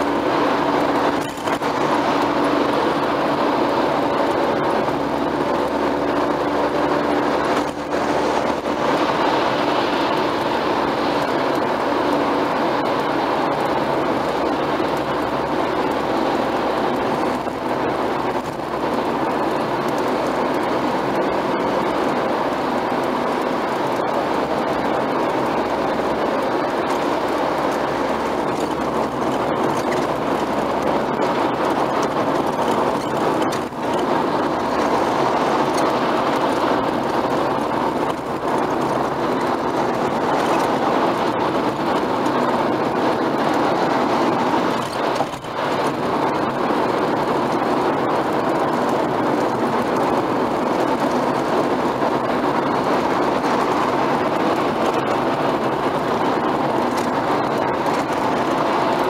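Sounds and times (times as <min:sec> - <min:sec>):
car interior road and engine noise: 0:00.0 - 0:59.0.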